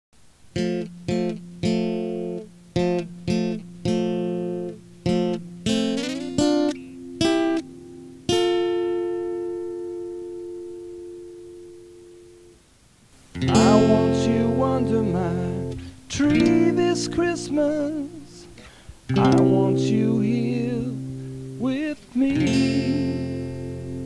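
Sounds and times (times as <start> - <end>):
guitar chords strummed: 0.5 - 12.6, 13.3 - 24.0.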